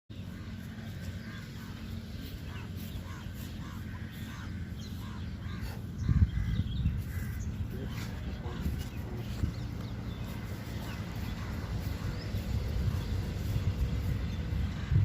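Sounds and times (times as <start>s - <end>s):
birds calling: 0.1s - 15.0s
low rumble: 0.2s - 15.0s.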